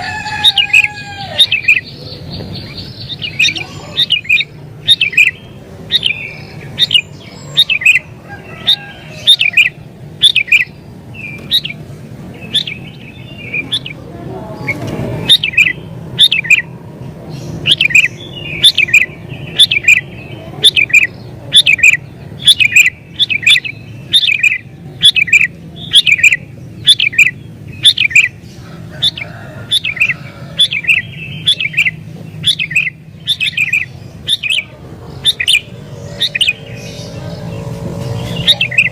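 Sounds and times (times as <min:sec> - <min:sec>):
bird chirping and warbling: 0:00.0 - 0:38.9.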